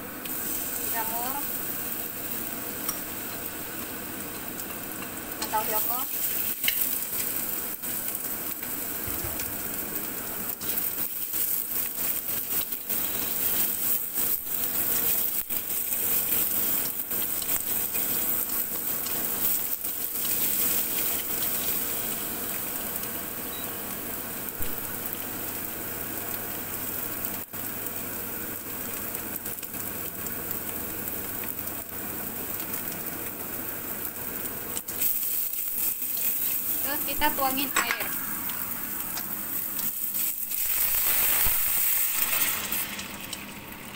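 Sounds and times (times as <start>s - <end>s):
crackles of frying oil: 0.0s - 43.9s
food sizzling in hot oil: 0.0s - 43.9s.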